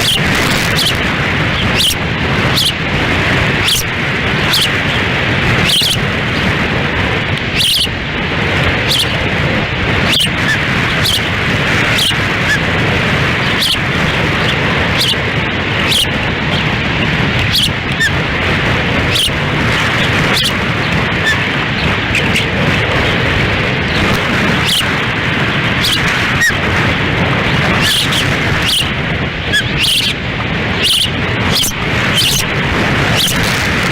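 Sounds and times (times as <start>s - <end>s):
high osprey chirps: 0.0s - 6.7s, 7.4s - 8.0s, 8.6s - 9.3s, 10.0s - 33.9s
wind buffeting microphone: 0.0s - 33.9s.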